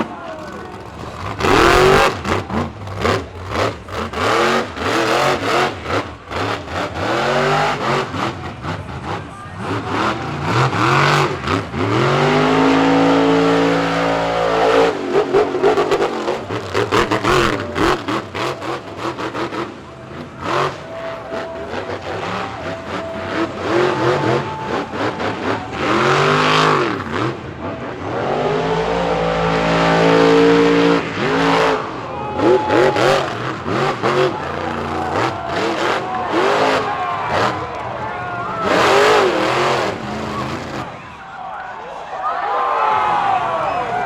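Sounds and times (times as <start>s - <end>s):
truck engine revving hard: 0.0s - 41.4s.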